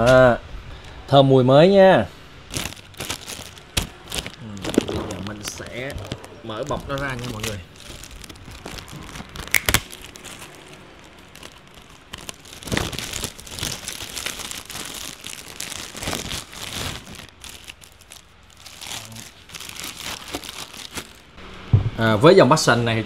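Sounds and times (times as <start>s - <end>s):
plastic bag crinkling: 2.5s - 21.4s.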